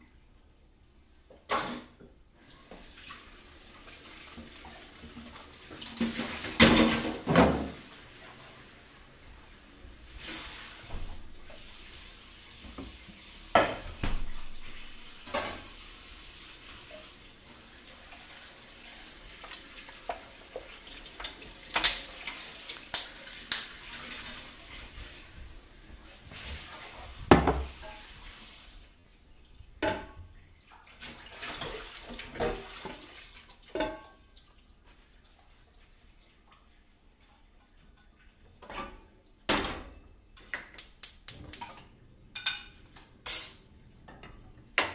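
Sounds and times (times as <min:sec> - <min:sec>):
faint steady hiss: 0:00.0 - 0:44.9.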